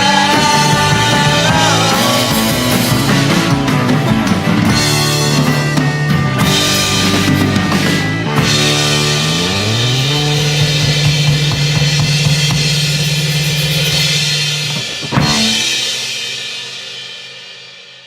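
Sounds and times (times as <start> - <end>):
drumming with cymbals: 0.0 - 18.0
rock band playing: 0.0 - 18.0.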